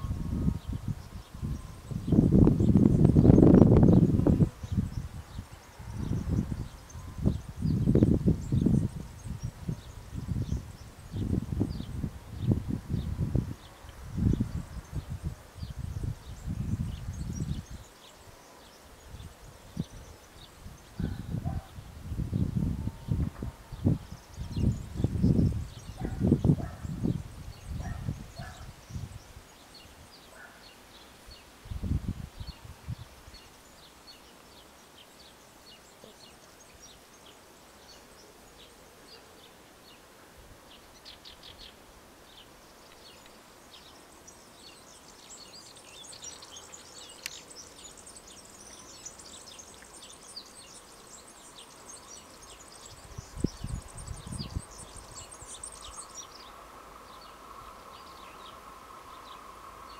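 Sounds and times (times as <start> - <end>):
wind gusts on microphone: 0.0 - 35.4, 39.8 - 59.9
birds chirping: 0.0 - 59.9.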